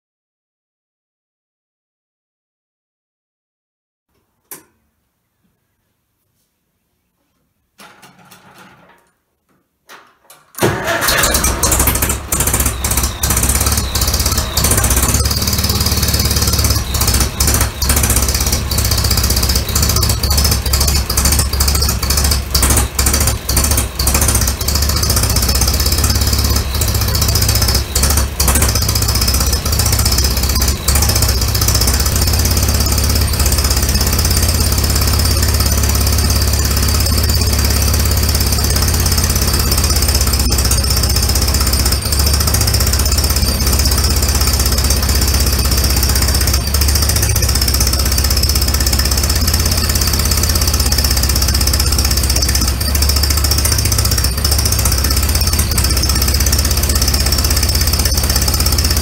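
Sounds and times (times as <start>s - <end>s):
tractor engine idling unevenly: 10.6s - 59.0s.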